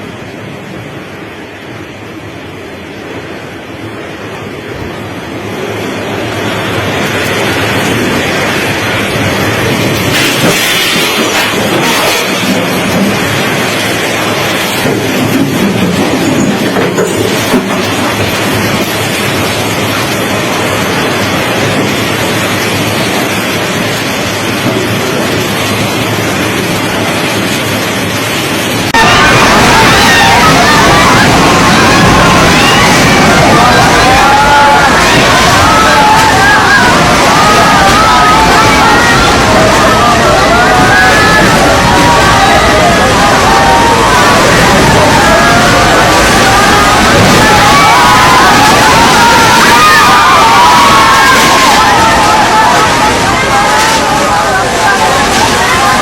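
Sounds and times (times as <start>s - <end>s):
heavy rain in strong wind: 0.0s - 56.0s.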